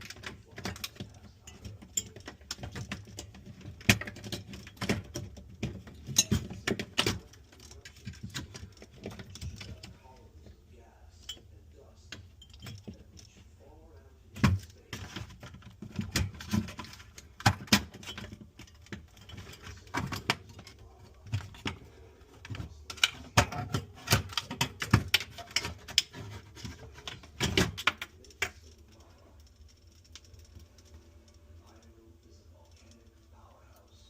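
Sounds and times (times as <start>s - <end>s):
tools clicking and knocking: 0.0s - 10.2s, 11.2s - 13.4s, 14.3s - 34.0s.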